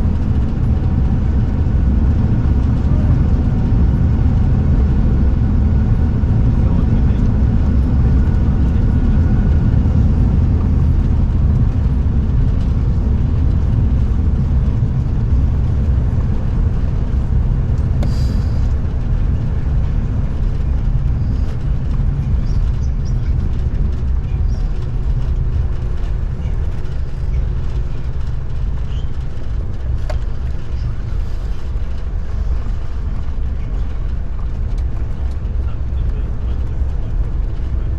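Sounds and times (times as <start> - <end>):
vehicle rumble: 0.0 - 37.9.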